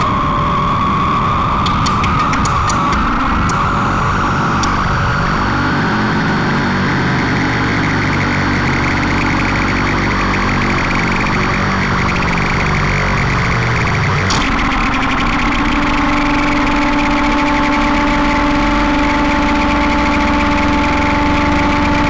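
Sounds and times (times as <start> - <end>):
low layered electronic drone: 0.0 - 22.0
grainy buzzing noise: 1.6 - 22.0.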